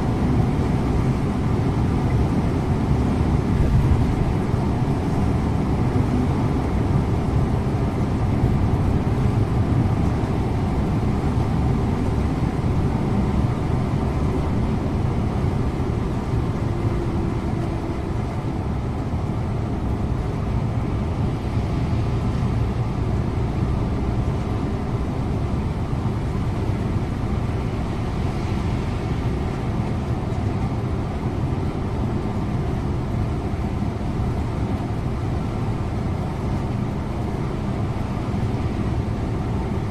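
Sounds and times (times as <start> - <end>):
bus engine drone: 0.0 - 39.9
road and tyre noise: 0.0 - 39.9.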